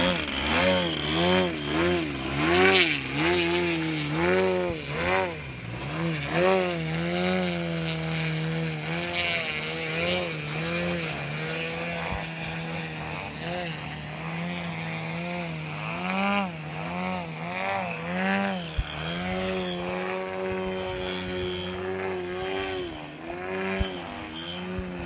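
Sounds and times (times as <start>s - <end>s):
model plane engine revving: 0.0s - 25.0s.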